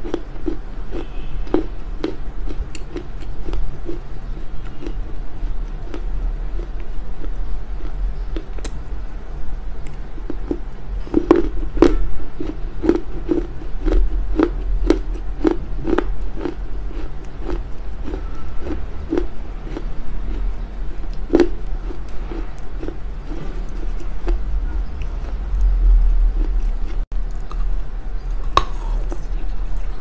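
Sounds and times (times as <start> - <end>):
crisp chewing crunches: 0.0 - 8.8, 9.8 - 30.0
low hum: 0.0 - 30.0.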